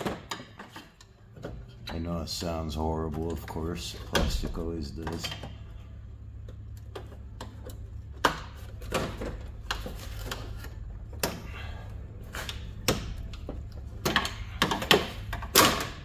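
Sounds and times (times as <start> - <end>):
steady low hum: 0.4 - 16.0.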